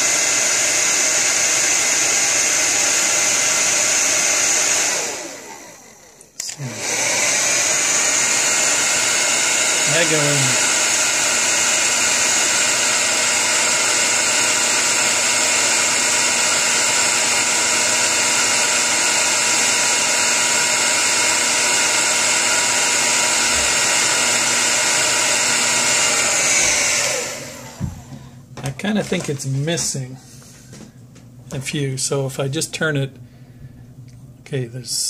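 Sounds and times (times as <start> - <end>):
hair dryer blowing: 0.0 - 30.9.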